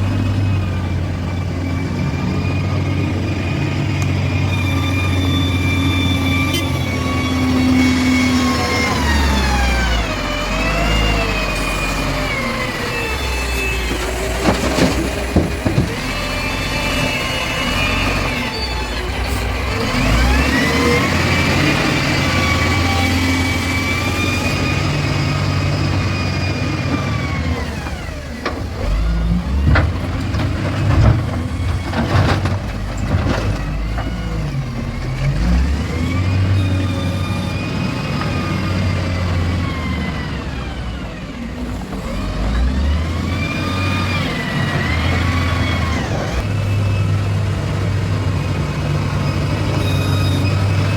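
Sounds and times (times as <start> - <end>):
excavator diesel engine revving: 0.0 - 50.9.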